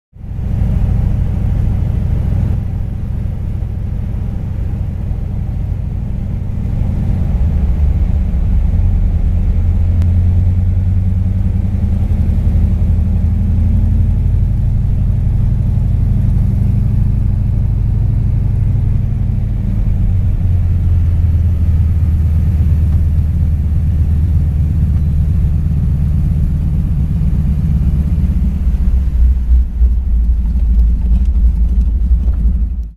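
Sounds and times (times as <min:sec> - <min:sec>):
plane engine and propeller drone: 0:00.2 - 0:32.9.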